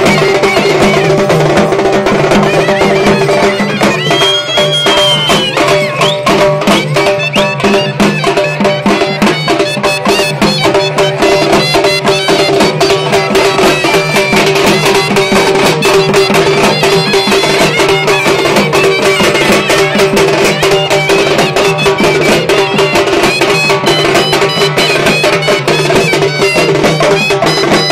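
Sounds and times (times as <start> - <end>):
fast dense percussion: 0.0 - 27.9
reed wind instrument melody: 0.0 - 27.9.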